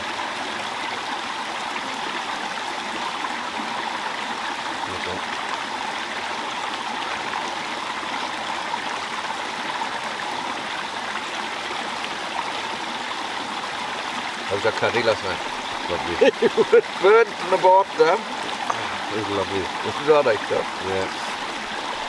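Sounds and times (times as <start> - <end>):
stream running over rocks: 0.0 - 22.0.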